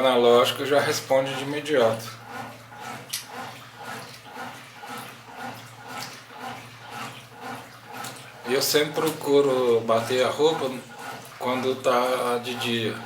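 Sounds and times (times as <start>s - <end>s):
washing machine water sloshing: 0.0s - 13.0s.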